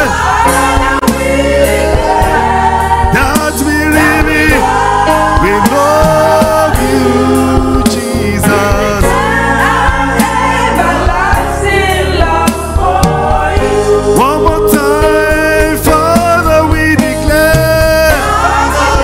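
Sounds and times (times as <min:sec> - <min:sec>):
people singing long notes: 0:00.0 - 0:15.8, 0:17.5 - 0:19.0
instrumental backing: 0:00.0 - 0:19.0.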